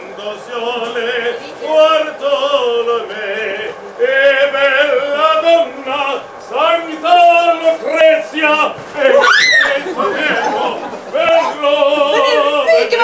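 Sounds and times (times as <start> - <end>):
man singing solo: 0.0 - 13.0.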